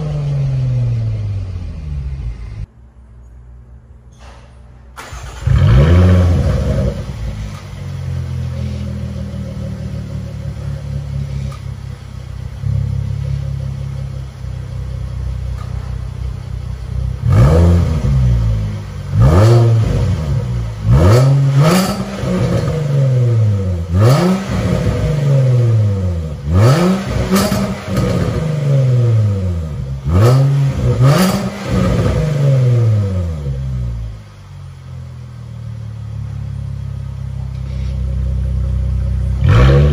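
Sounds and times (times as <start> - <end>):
car engine revving: 0.0 - 2.7, 5.0 - 39.9
car engine starting: 0.0 - 2.8, 3.7 - 39.9
car engine idling: 0.0 - 4.1, 4.7 - 39.9.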